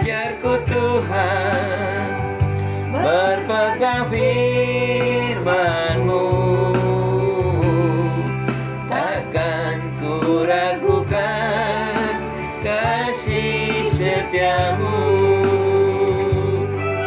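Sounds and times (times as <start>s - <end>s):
held bass notes: 0.0s - 17.0s
melodic lead line with vibrato: 0.0s - 17.0s.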